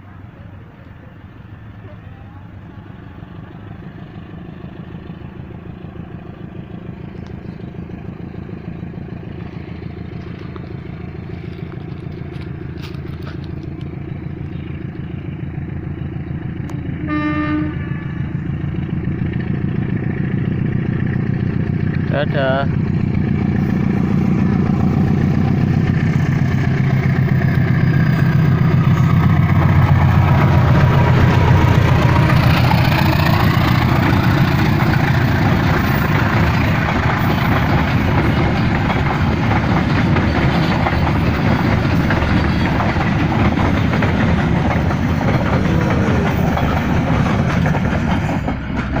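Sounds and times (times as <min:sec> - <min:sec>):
diesel locomotive engine drone: 0:00.0 - 0:49.0
train carriages rumbling and rattling: 0:00.0 - 0:49.0.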